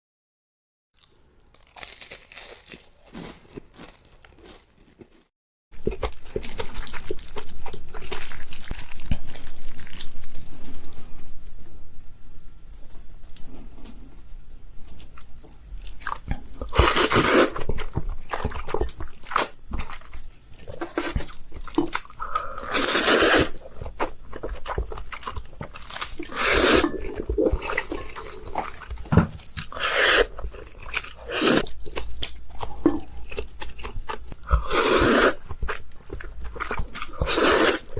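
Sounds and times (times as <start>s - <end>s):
crunchy bites and chewing: 1.0s - 10.6s, 15.2s - 37.9s.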